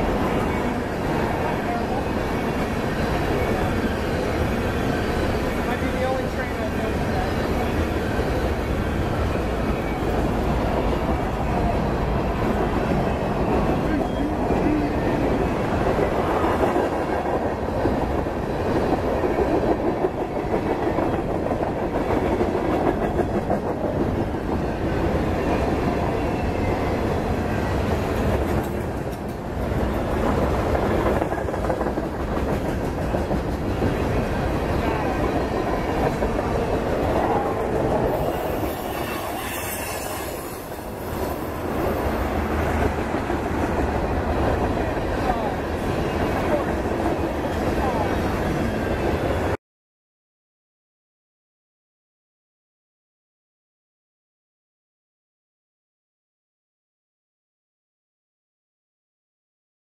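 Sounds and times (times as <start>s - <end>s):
freight train wheels rumbling: 0.0s - 49.6s.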